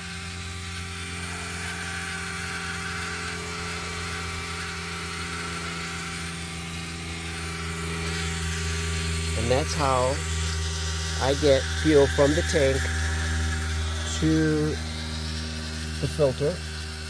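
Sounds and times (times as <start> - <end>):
electric fuel pump buzzing: 0.0 - 17.0.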